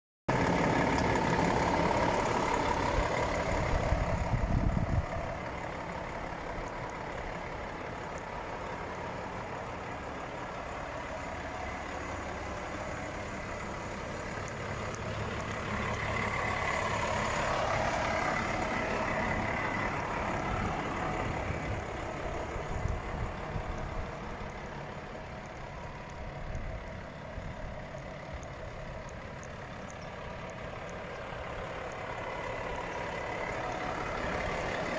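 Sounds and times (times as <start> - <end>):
truck diesel engine idling: 0.3 - 34.9.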